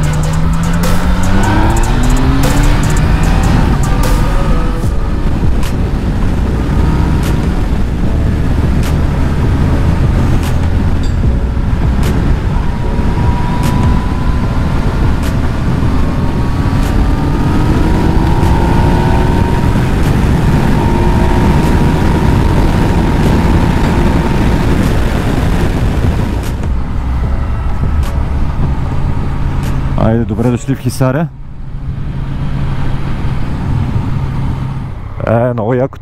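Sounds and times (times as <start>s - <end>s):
wind noise on microphone: 0.0s - 30.0s, 31.9s - 35.2s
motorcycle engine running: 0.0s - 30.6s.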